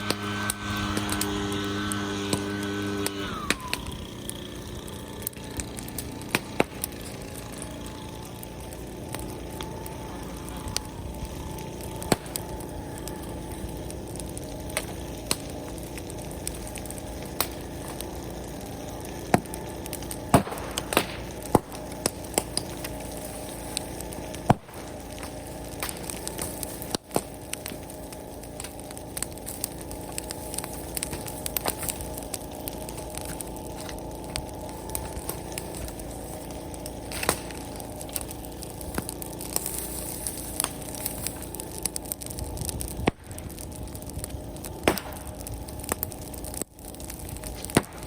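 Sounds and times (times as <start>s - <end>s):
bonfire crackling and popping: 0.0s - 48.0s
fire roaring steadily: 0.0s - 48.0s.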